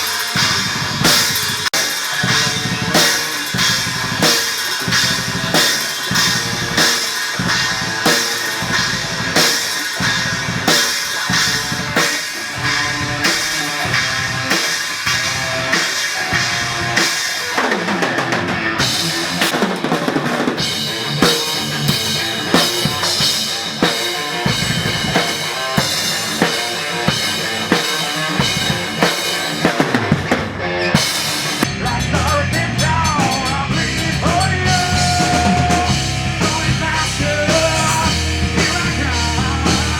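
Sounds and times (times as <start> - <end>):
rock music with drum kit: 0.0 - 39.9.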